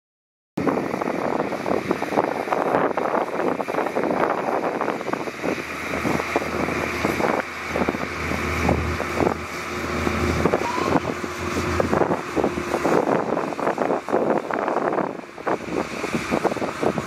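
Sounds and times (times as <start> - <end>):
low engine hum: 0.6 - 17.0
wind buffeting microphone: 0.6 - 17.0.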